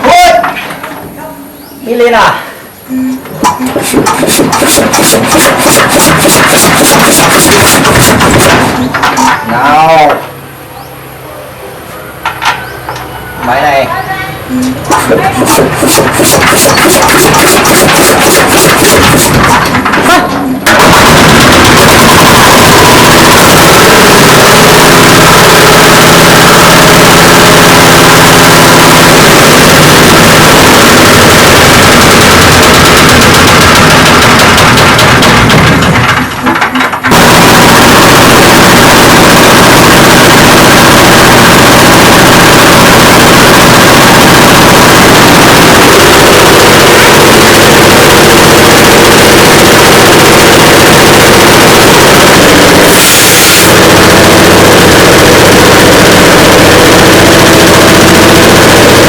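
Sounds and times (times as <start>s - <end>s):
air impact wrench rattling: 3.3s - 9.4s, 14.8s - 23.0s, 23.6s - 59.0s.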